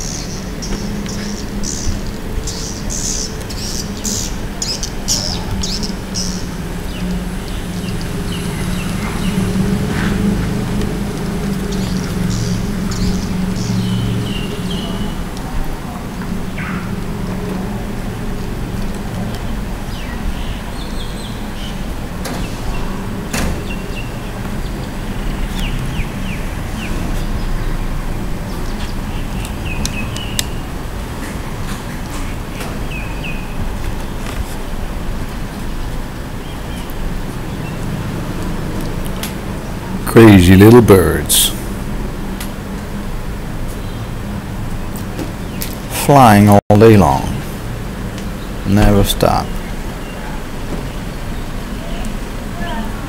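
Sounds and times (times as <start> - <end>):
low rumble of traffic: 0.0 - 53.0.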